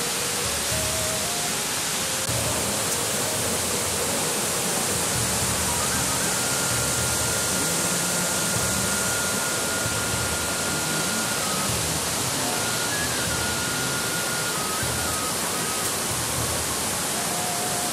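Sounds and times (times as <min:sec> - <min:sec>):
water rushing: 0:00.0 - 0:17.9.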